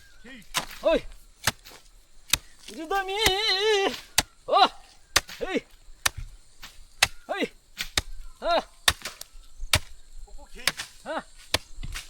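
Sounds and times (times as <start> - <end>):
sharp chopping strikes: 0.4 - 4.4, 5.1 - 10.0, 10.6 - 12.0.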